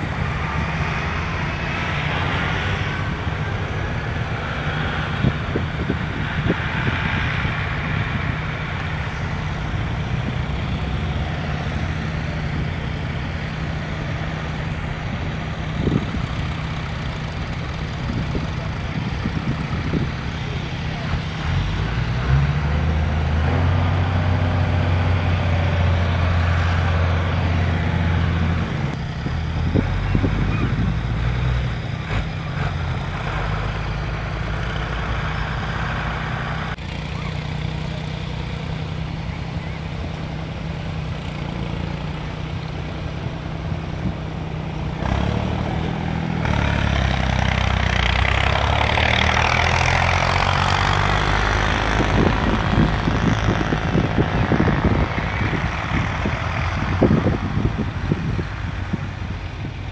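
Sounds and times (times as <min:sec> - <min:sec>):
diesel tractor engine idling: 0:00.0 - 0:59.9.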